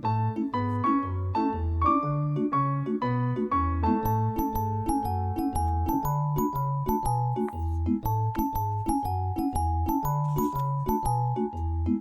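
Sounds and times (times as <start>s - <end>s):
light instrumental melody: 0.0s - 12.0s.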